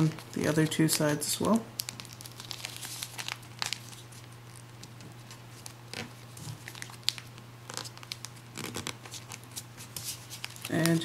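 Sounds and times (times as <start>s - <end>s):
paper being folded and creased: 0.0s - 1.2s, 1.8s - 11.0s.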